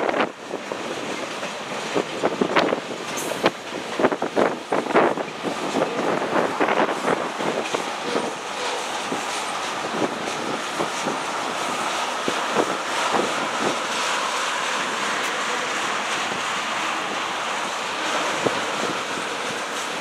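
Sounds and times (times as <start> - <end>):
freight train rushing past: 0.0 - 20.0.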